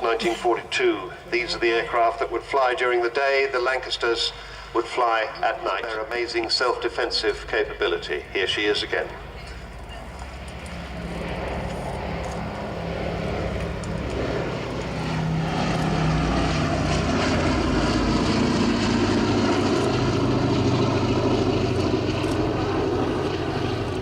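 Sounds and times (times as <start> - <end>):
radial piston engines droning: 0.0 - 24.0.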